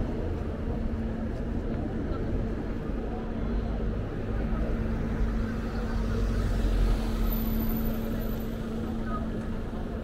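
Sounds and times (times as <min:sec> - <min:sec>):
street noise: 0:00.0 - 0:10.0.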